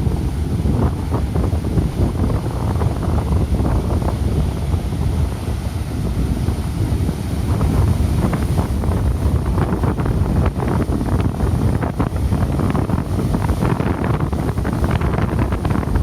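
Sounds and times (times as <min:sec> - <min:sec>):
rough sea waves: 0:00.0 - 0:16.0
wind buffeting microphone: 0:00.0 - 0:16.0.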